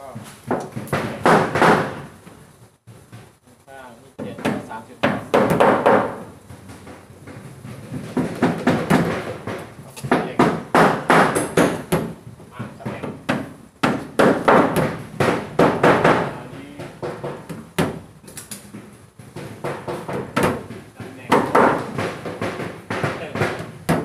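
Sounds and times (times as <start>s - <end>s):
sharp knocks: 0.0s - 2.2s, 4.2s - 24.0s
hand tools tapping on plywood: 0.0s - 3.4s, 4.2s - 24.0s
clatter of work noise: 2.9s - 24.0s.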